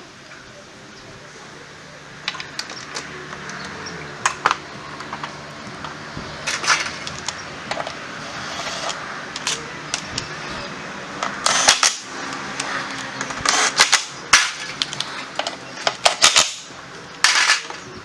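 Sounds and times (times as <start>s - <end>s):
metal tools clinking: 2.2s - 18.0s.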